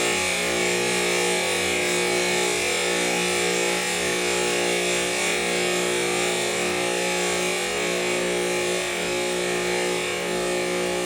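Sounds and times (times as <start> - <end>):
pump hum: 0.0 - 11.0.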